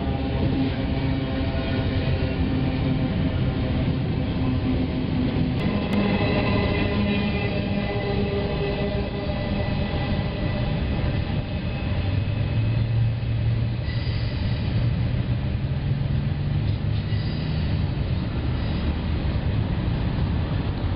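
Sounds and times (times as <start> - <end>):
freight train rolling past: 0.0 - 20.9.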